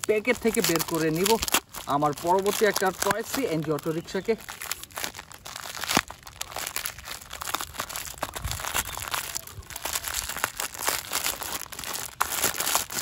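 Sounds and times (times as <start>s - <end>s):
plastic wrapping crinkling: 0.0s - 13.0s
sharp plastic crack: 0.0s - 13.0s.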